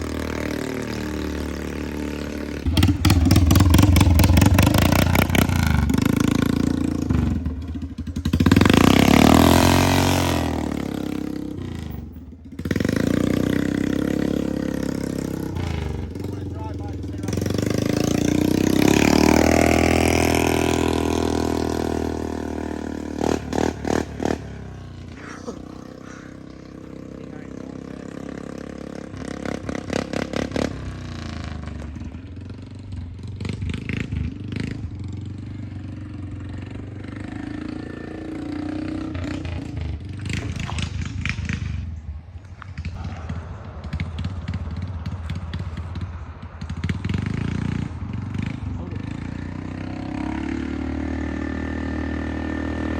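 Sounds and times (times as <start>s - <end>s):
atv engine revving and idling: 0.0s - 52.9s.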